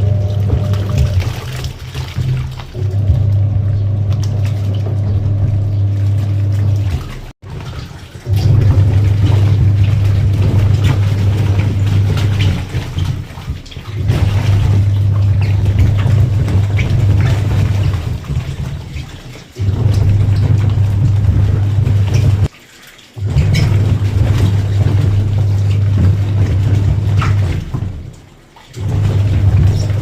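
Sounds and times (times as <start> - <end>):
washing machine motor hum: 0.0 - 30.0
water sloshing with light knocks: 0.0 - 30.0.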